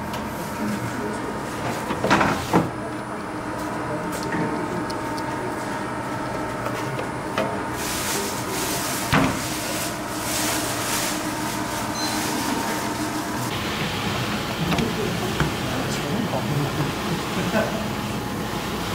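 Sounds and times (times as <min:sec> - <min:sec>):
machinery humming: 0:00.0 - 0:18.9.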